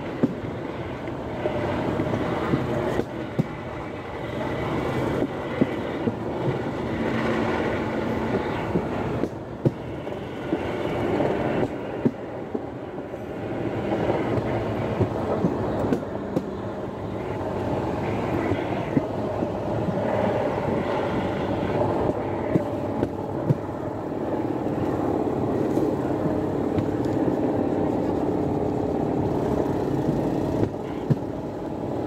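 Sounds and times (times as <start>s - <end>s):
rail cart rolling and motor noise: 0.0s - 32.0s.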